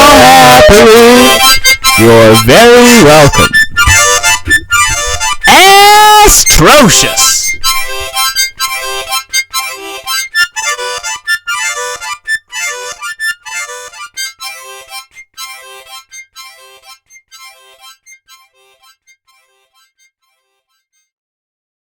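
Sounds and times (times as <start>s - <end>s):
repeated short chords music: 0.0s - 20.6s.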